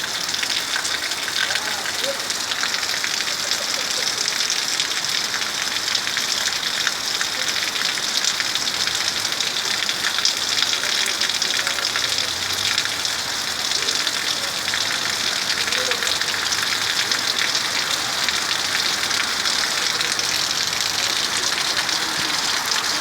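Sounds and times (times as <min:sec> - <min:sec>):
rain falling: 0:00.0 - 0:23.0
raindrops ticking on surfaces: 0:00.0 - 0:23.0.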